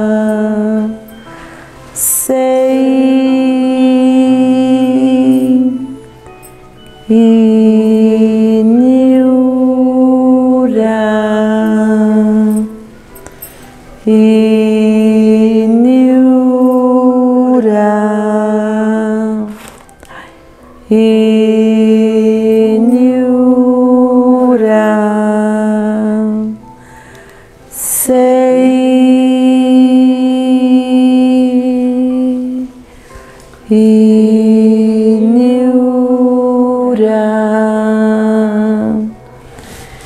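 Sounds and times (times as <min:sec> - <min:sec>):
woman chanting: 0:00.0 - 0:01.2, 0:02.0 - 0:06.1, 0:07.0 - 0:12.9, 0:14.0 - 0:19.8, 0:20.8 - 0:26.7, 0:27.7 - 0:32.8, 0:33.6 - 0:39.2.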